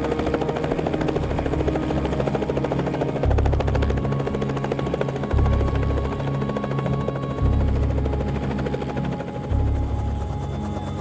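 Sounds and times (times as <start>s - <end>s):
helicopter rotor blades beating: 0.0s - 11.0s.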